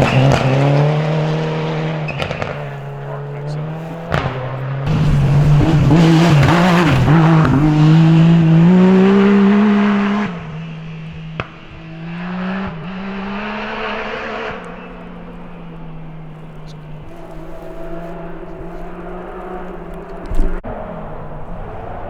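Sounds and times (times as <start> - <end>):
rally car engine revving past: 0.0 - 22.0.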